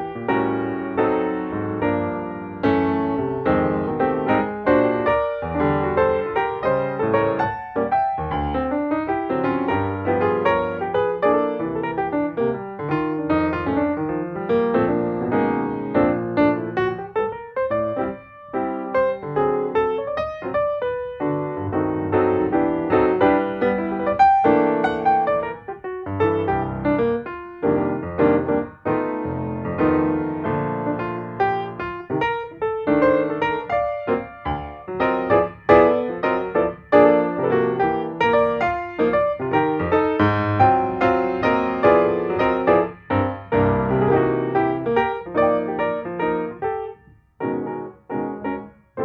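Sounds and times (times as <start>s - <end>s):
piano melody: 0.0s - 49.0s.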